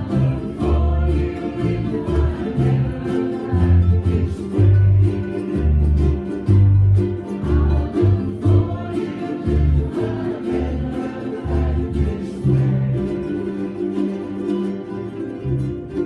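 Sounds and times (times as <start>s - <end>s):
bass line: 0.0s - 16.0s
strummed string instruments: 0.0s - 16.0s.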